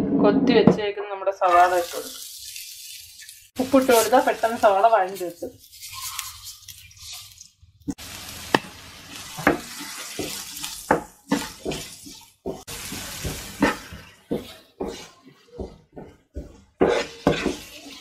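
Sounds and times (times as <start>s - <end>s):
onions sizzling in oil: 1.4s - 15.1s, 16.8s - 18.0s
wooden spatula scraping a pan: 1.4s - 18.0s.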